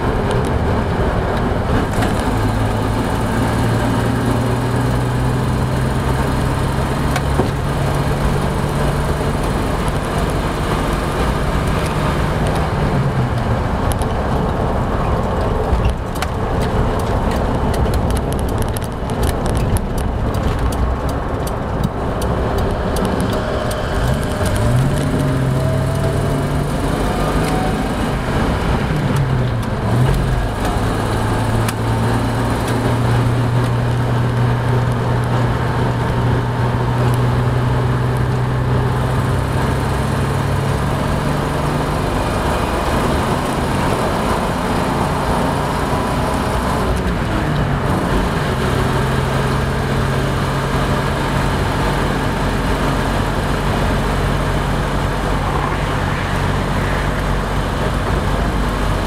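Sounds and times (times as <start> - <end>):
car engine droning: 0.0 - 59.0
tyre and road noise: 0.0 - 59.0.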